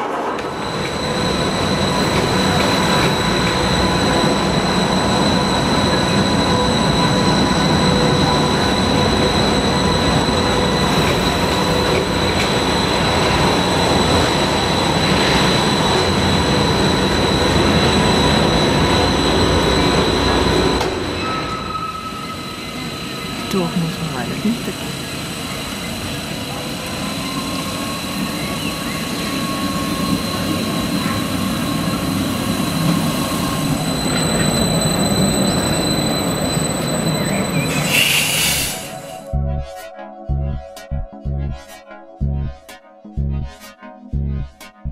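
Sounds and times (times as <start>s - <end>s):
electric train passing: 0.0s - 39.4s.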